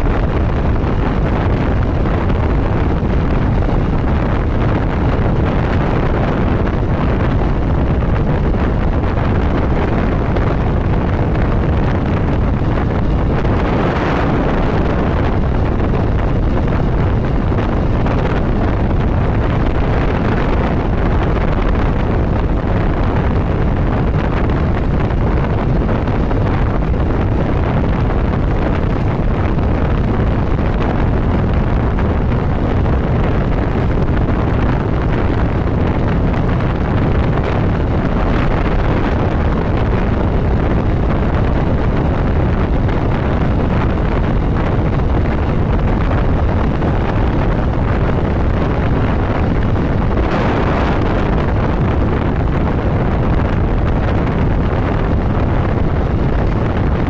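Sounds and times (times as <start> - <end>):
motorcycle running: 0.0 - 57.0
wind rush on microphone: 0.0 - 57.0.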